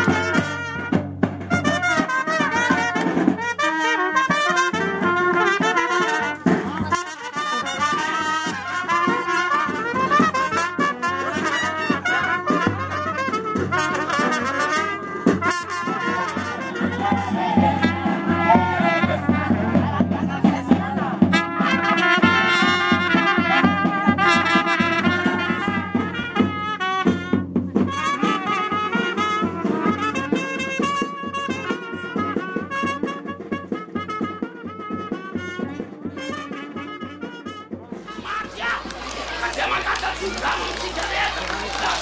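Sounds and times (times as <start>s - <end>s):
brass band music: 0.0s - 20.1s, 20.7s - 42.0s.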